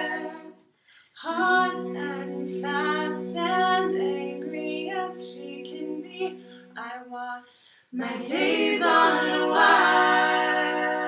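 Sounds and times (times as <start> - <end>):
women singing in harmony: 0.0 - 0.6, 1.2 - 7.4, 8.0 - 11.0.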